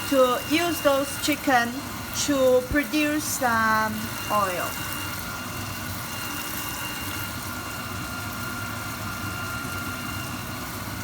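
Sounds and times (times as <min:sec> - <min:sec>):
faint steady whine: 0:00.0 - 0:11.0
oil frying in a pan: 0:00.0 - 0:11.0.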